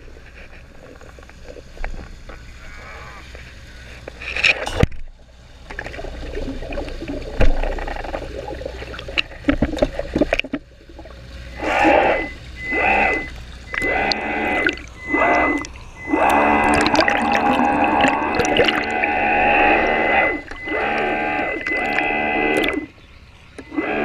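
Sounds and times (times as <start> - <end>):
underwater motor whirring: 0.0 - 24.0
water sloshing against camera: 0.0 - 24.0.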